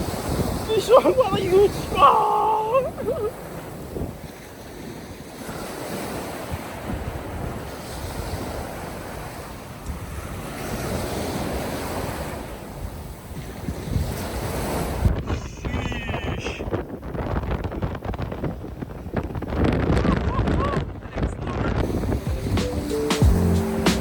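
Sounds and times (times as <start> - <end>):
wind buffeting microphone: 0.0 - 23.6
surf breaking on beach: 0.0 - 24.0.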